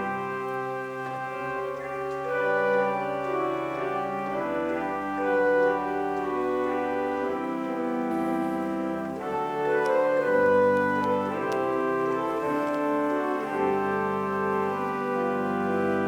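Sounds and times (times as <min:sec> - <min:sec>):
pipe organ chords: 0:00.0 - 0:16.0.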